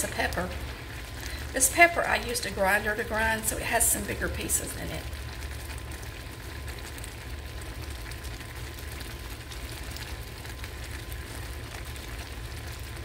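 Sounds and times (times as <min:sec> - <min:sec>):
corn simmering in a skillet: 0:00.0 - 0:13.0
low mechanical hum: 0:00.0 - 0:13.0.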